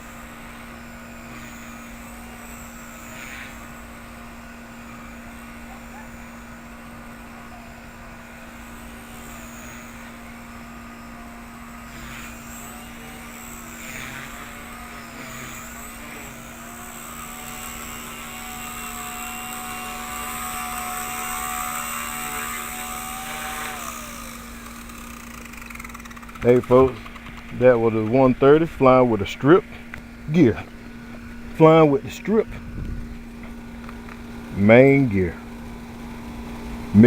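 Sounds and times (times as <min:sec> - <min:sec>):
rc helicopter motor and rotor whine: 0:00.0 - 0:37.0.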